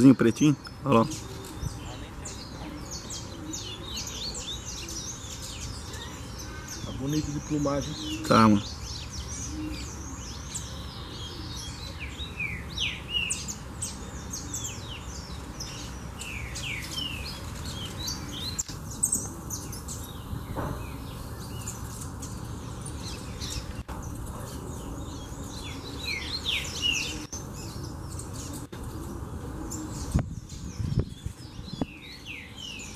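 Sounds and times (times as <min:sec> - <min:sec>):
finches chirping: 0:00.0 - 0:32.9.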